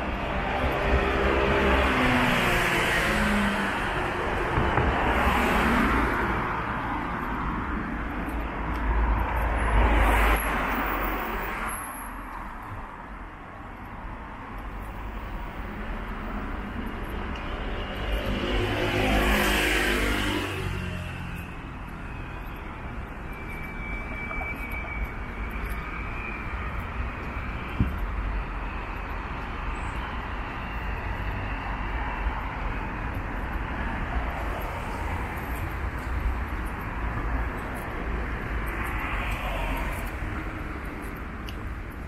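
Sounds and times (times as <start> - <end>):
street traffic noise: 0.0 - 42.0.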